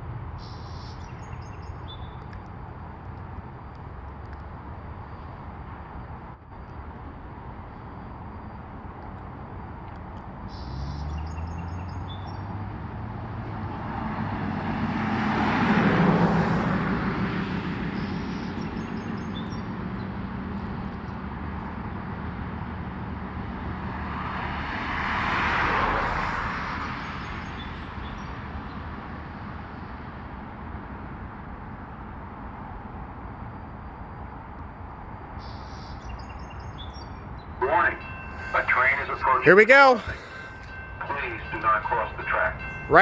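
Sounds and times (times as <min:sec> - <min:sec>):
low engine hum: 0:00.0 - 0:42.4
vehicles driving past: 0:00.0 - 0:43.0.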